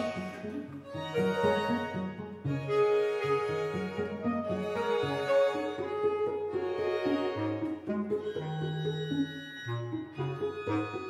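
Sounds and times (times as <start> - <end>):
bass clarinet and string quartet: 0.0 - 11.0.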